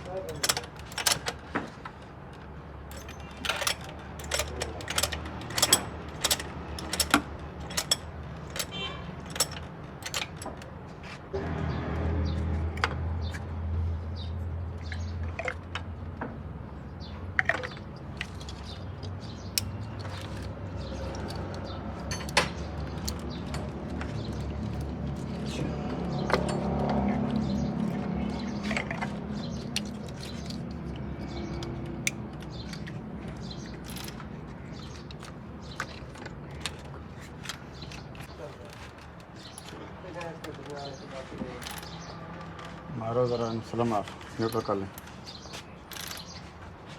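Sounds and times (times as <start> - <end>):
metal tools clicking: 0.0 - 11.2, 17.4 - 46.5.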